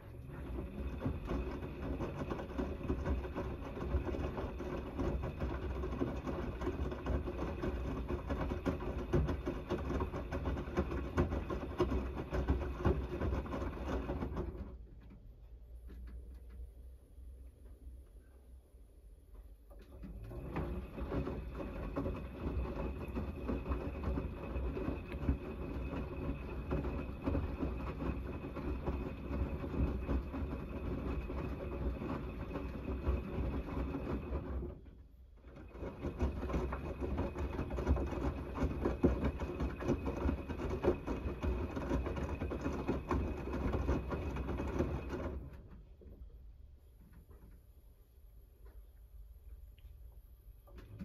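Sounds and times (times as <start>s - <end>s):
washing machine motor whine: 0.0s - 16.2s, 19.7s - 46.0s
washing machine drum churning: 0.0s - 16.3s, 19.6s - 47.8s, 50.6s - 51.0s.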